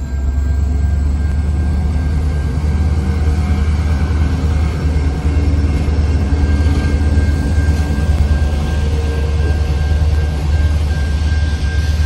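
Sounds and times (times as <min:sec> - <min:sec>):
crossing bell ringing: 0:00.0 - 0:12.0
diesel locomotive passing: 0:00.0 - 0:12.0
train cars rumbling over rails: 0:00.0 - 0:12.0.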